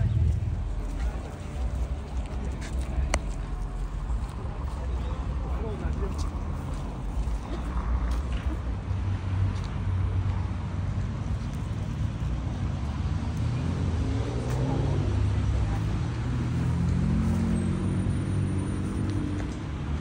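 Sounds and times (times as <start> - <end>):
vehicle engine running: 0.0 - 8.7, 10.9 - 20.0
steady low traffic rumble: 0.0 - 20.0.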